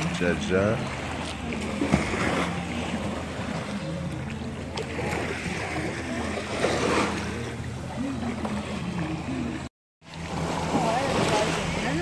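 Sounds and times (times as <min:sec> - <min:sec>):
voices talking: 0:00.0 - 0:09.7
boat motor humming: 0:00.0 - 0:12.0
water washing past: 0:00.0 - 0:12.0.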